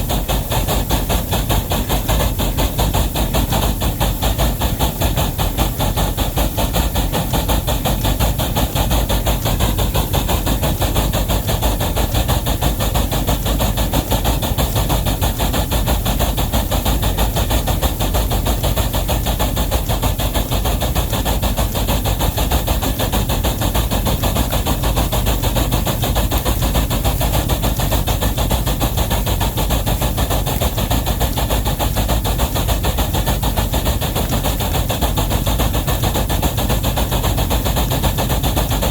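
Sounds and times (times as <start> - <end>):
steam locomotive rhythmic chuffing: 0.0 - 38.9.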